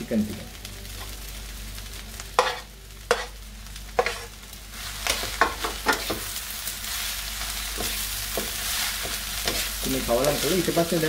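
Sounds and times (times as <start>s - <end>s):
food sizzling in a metal pan: 0.0s - 11.0s.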